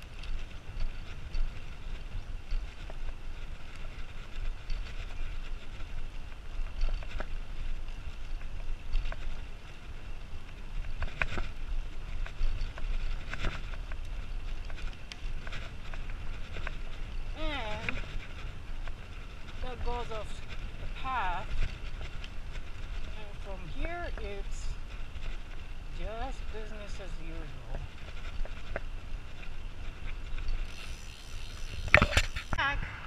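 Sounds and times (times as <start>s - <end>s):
bicycle tyre noise on concrete: 0.0s - 33.0s
low wind rumble: 0.0s - 33.0s.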